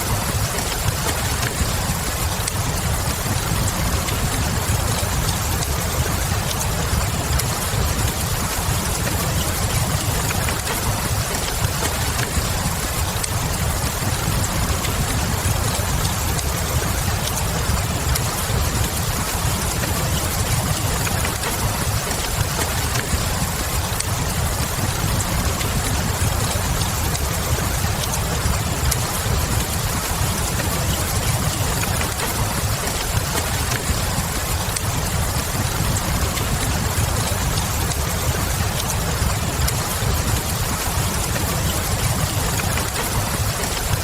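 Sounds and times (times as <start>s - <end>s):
log fire crackling: 0.0s - 44.0s
steady rain: 0.0s - 44.0s.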